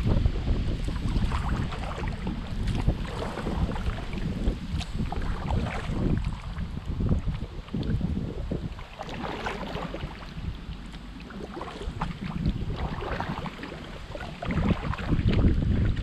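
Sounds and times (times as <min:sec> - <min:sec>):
paddle splashing water: 0:00.0 - 0:16.0
wind buffeting microphone: 0:00.0 - 0:16.0.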